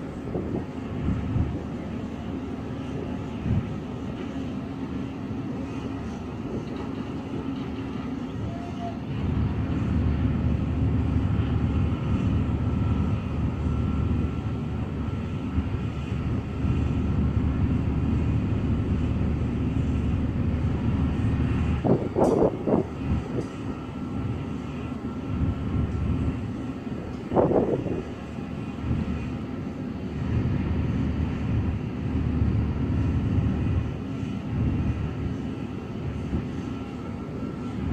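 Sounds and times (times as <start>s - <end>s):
drilling rig machinery rumbling: 0.0s - 37.9s.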